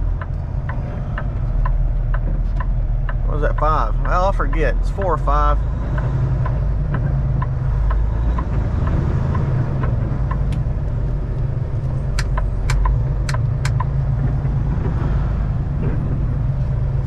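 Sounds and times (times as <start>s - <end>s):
sharp clicks: 0.0s - 14.0s
faint regular ticking: 0.0s - 14.1s
truck engine and road noise: 0.0s - 17.0s.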